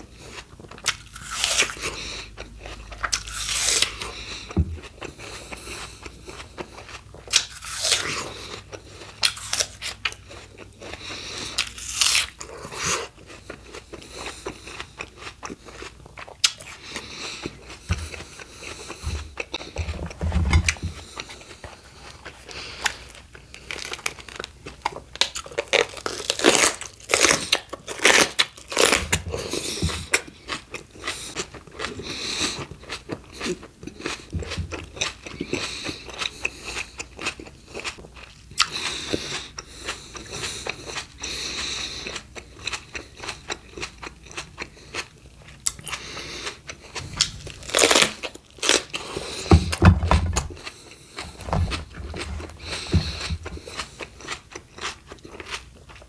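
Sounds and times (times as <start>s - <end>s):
crunching bites of raw fruit: 0.3s - 56.0s.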